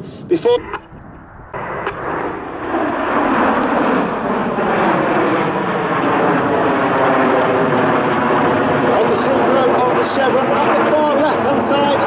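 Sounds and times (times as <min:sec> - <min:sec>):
jets roaring past: 0:00.0 - 0:12.0.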